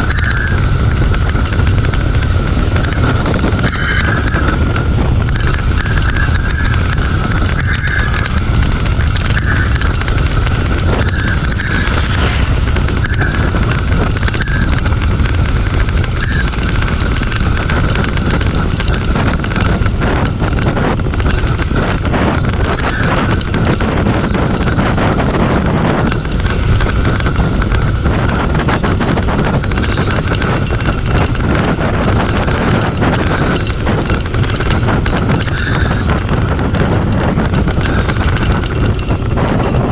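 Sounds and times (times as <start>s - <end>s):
bicycle rattling and knocking: 0.0s - 39.9s
wind rushing over microphone: 0.0s - 39.9s.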